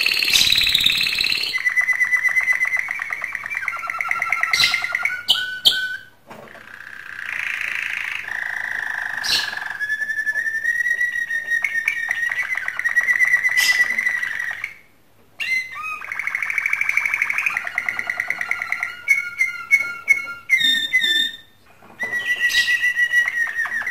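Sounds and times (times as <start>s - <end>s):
canary singing trills: 0.0s - 23.9s.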